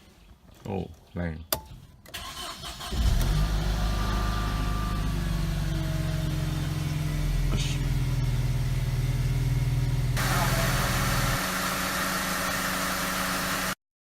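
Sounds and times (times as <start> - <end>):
car engine starting and idling: 2.1 - 13.8.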